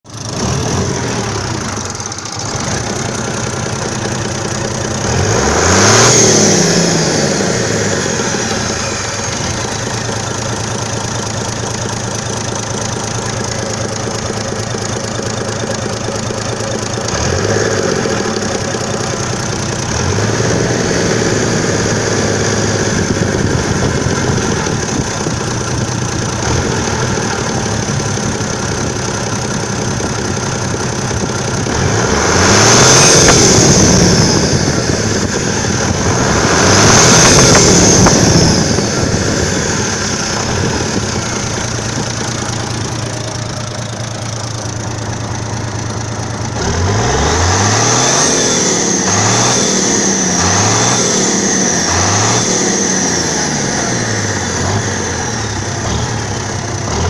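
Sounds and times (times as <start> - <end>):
diesel engine revving: 0.1 - 57.0
turbocharger whine: 0.1 - 57.0.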